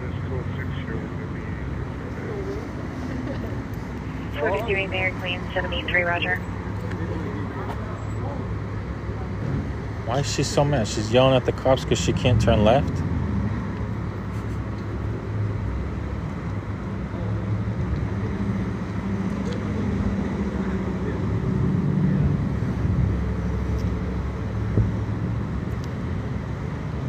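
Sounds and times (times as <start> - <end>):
street traffic rumble: 0.0 - 27.0.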